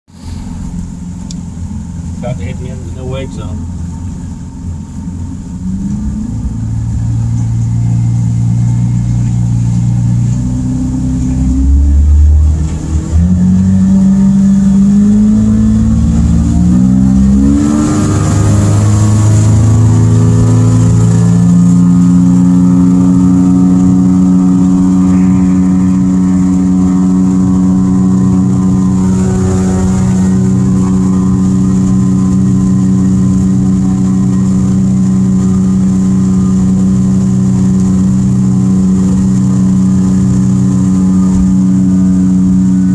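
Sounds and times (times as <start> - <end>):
outboard motor accelerating: 0.1 - 42.9.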